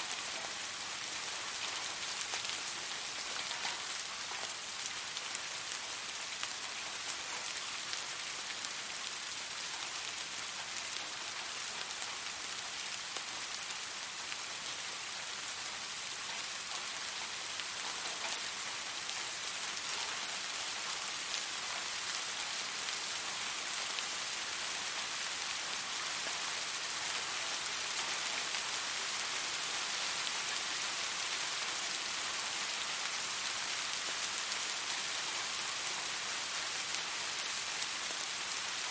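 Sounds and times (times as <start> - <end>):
gentle rain falling: 0.0 - 38.9
raindrops pattering: 0.0 - 38.9.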